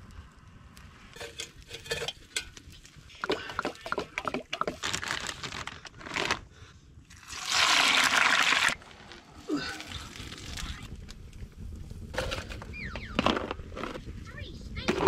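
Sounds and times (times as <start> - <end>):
campfire crackling: 0.0 - 14.9.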